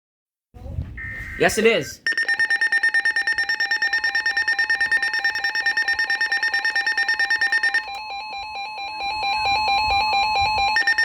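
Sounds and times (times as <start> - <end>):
pulsing electronic alarm tone: 1.0 - 11.0
warbling alarm tone: 1.0 - 11.0.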